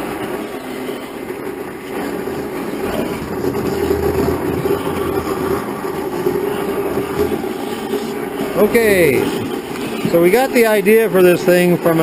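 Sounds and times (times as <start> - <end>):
garbage disposal grinding food: 0.0 - 12.0.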